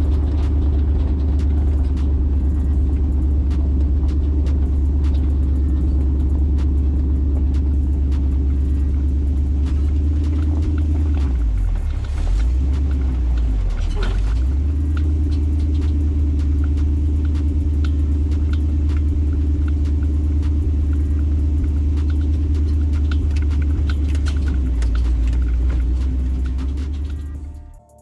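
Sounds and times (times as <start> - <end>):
off-road vehicle engine drone: 0.0 - 27.9.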